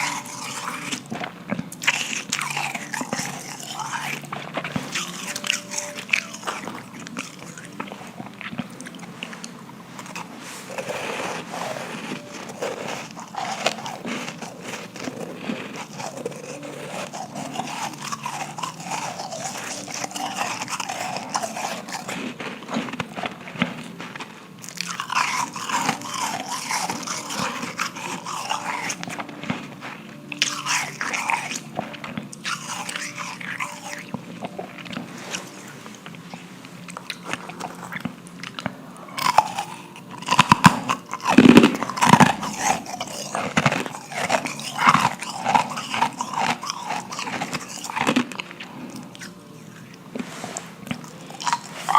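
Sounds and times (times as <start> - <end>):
chewing crunchy ice: 0.0 - 51.9.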